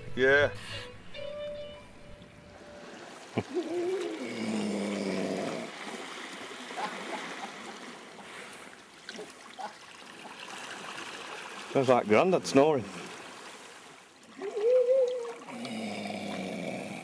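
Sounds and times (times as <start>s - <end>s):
water lapping against rocks: 2.8s - 17.0s.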